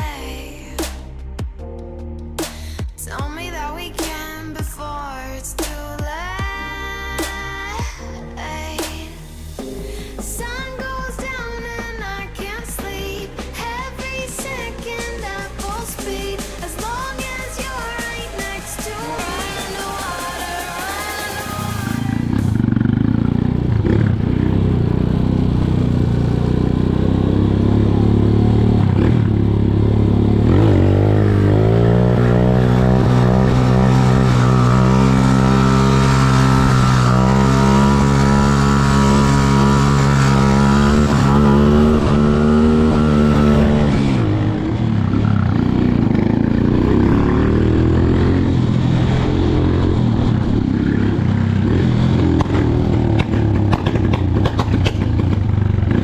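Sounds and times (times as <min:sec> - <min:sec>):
motorcycle engine running: 0:09.6 - 0:56.0.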